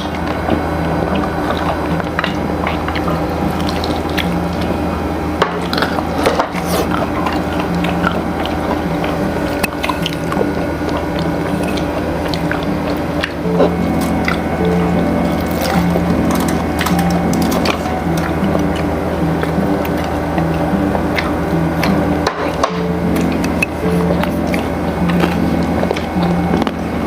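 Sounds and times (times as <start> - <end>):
background music: 0.0 - 27.0
crunching and chewing fried chicken: 0.0 - 27.0.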